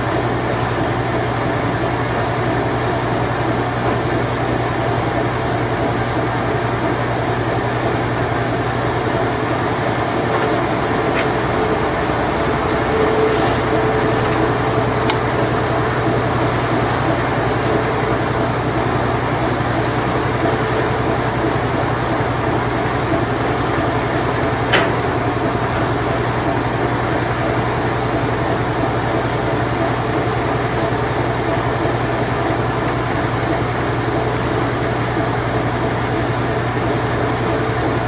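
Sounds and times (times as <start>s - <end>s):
washing machine spin cycle: 0.0s - 38.0s.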